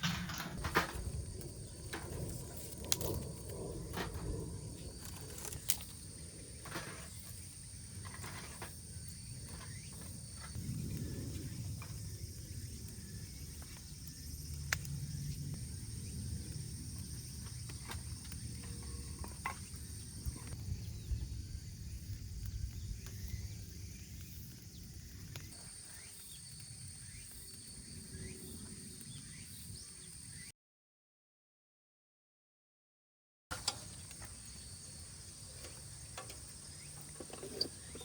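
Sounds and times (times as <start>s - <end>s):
wood fire crackling: 0.0s - 29.7s, 33.5s - 38.0s
crickets trilling: 0.0s - 30.5s, 33.5s - 38.0s.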